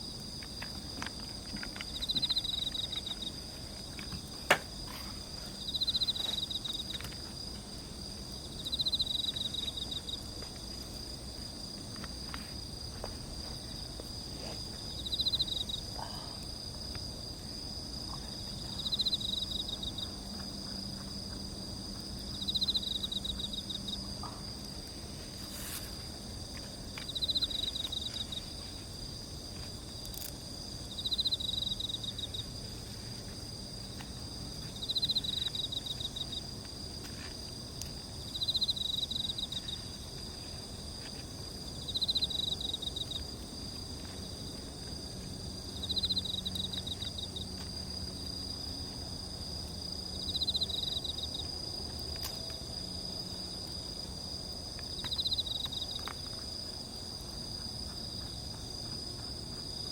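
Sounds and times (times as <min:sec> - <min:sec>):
insect pulsed trill: 0:00.0 - 0:10.3, 0:11.0 - 0:36.9, 0:37.5 - 0:59.9
insect chorus drone: 0:00.0 - 0:59.9.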